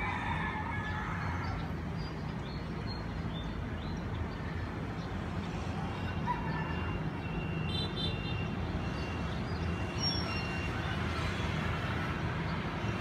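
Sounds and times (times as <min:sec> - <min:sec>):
distant city traffic rumble: 0:00.0 - 0:13.0.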